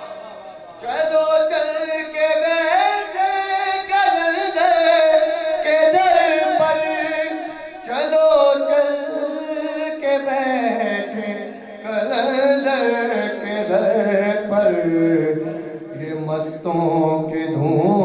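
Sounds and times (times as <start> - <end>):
man singing into a microphone: 0.0 - 18.0.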